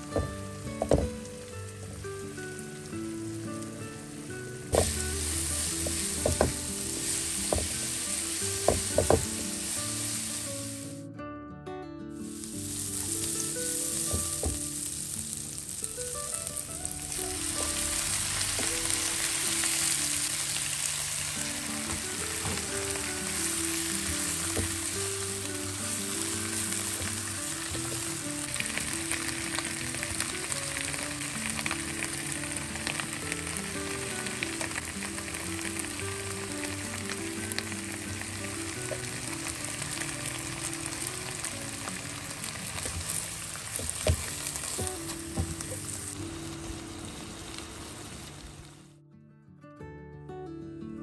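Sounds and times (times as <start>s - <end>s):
vegetables sizzling in a wok: 0.0s - 11.0s, 12.2s - 48.9s
soft background music: 0.0s - 47.8s.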